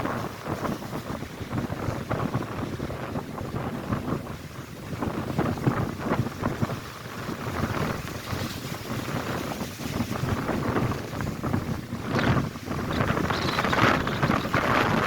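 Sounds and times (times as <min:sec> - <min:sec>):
waves crashing on shore: 0:00.0 - 0:15.0
wind buffeting microphone: 0:00.0 - 0:15.0.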